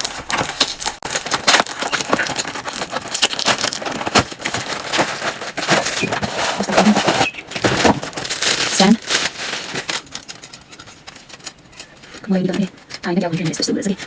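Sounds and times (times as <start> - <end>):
packaging crinkling: 0.0 - 12.9.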